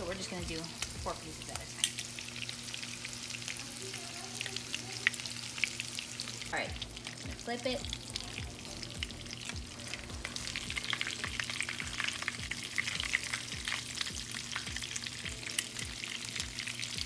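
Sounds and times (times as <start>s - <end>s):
hot oil sizzling and popping: 0.0s - 17.0s.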